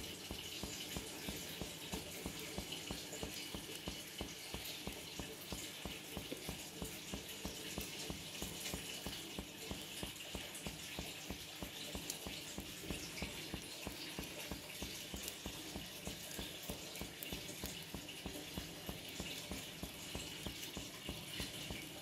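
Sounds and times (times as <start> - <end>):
fast even ticking: 0.0 - 22.0
oil hissing in a pan: 0.0 - 22.0.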